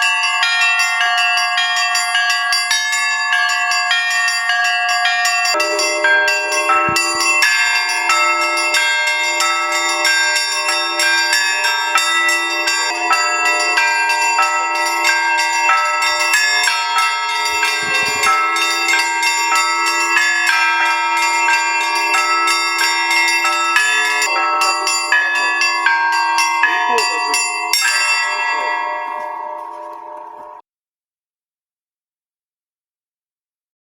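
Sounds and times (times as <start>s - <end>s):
deep bell ringing: 0.0s - 30.6s
small church bells ringing: 0.0s - 30.6s.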